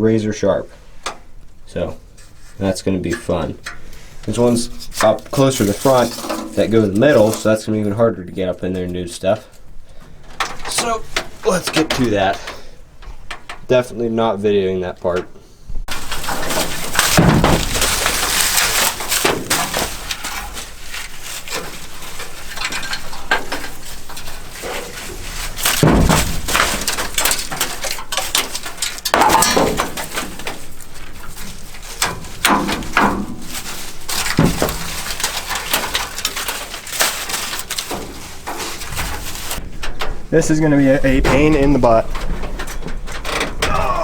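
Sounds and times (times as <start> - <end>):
sheet metal parts clanking: 0.7 - 44.0.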